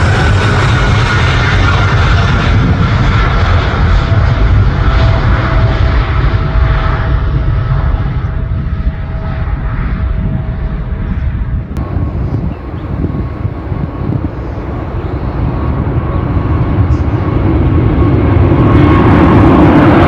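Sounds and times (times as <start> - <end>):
jet engines roaring on takeoff: 0.0 - 20.0.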